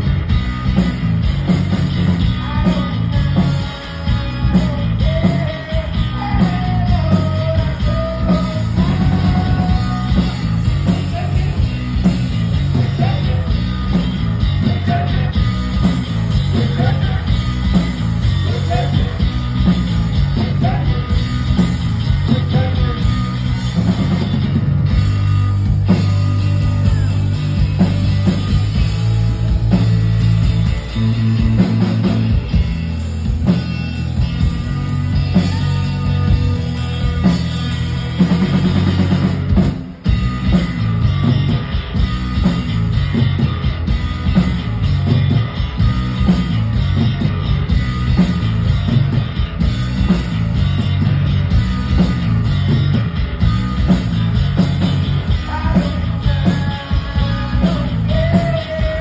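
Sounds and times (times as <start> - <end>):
bass guitar: 0.0 - 59.0
drums: 0.0 - 59.0
electric guitar lead: 0.0 - 59.0.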